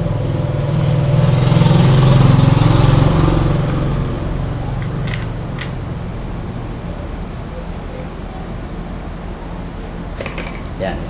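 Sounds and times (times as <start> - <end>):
vehicle engine passing by: 0.0 - 10.2.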